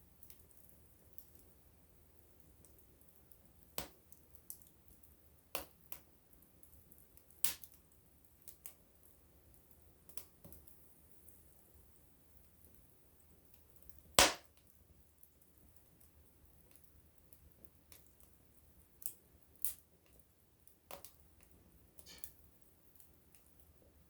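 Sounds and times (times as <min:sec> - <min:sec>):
campfire crackling and popping: 0:02.2 - 0:11.4, 0:12.3 - 0:24.0.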